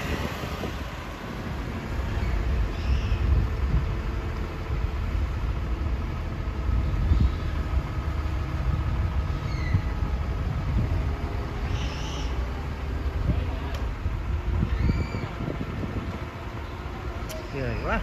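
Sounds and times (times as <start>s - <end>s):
truck engine running under load: 0.0s - 18.0s.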